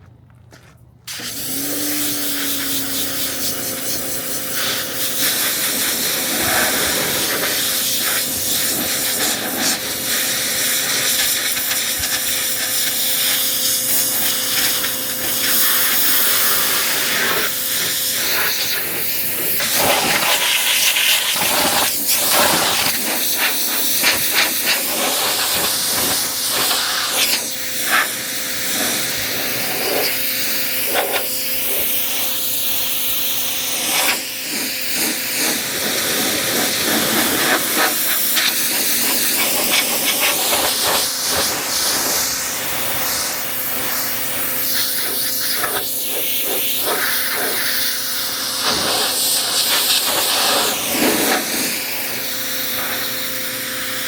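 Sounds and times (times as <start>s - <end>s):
pressure washer spraying car: 1.1s - 54.0s.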